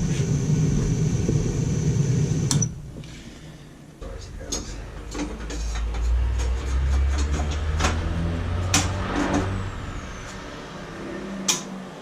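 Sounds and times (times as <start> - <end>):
gas burners rumbling: 0.0 - 12.0.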